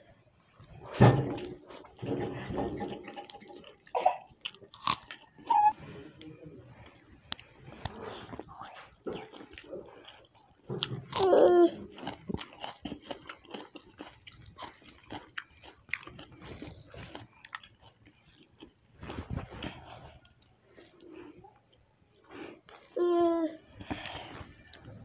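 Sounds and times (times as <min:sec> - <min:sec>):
chewing noodles: 0:02.9 - 0:23.0, 0:23.7 - 0:25.0.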